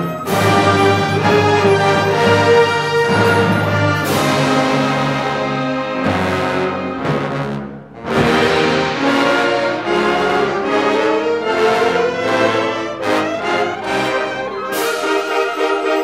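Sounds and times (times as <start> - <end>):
wind band playing: 0.0 - 16.0.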